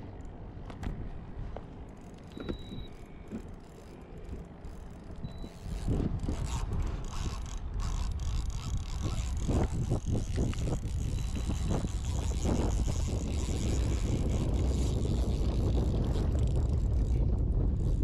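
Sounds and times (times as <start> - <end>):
fishing reel clicking and ratcheting: 1.9 - 18.0.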